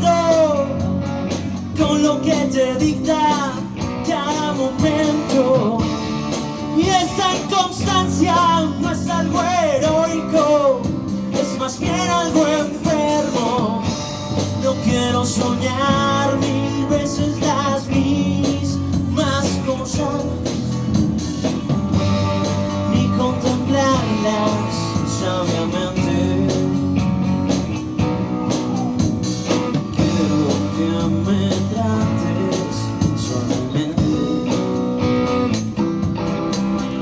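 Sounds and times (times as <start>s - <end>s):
bass guitar: 0.0s - 37.0s
drum kit beat on cymbals: 0.0s - 37.0s
electric guitar line: 0.0s - 37.0s.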